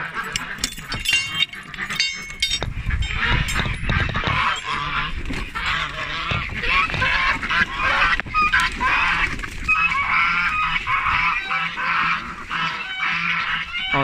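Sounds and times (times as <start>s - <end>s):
ducks and poultry calling: 0.0s - 14.0s.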